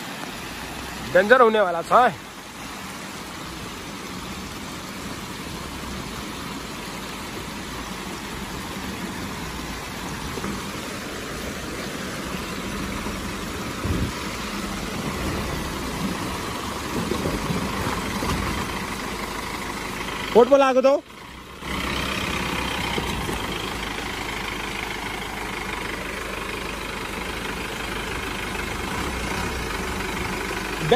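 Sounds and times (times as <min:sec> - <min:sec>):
diesel engine labouring: 0:00.0 - 0:30.9
water running over stones: 0:00.0 - 0:30.9.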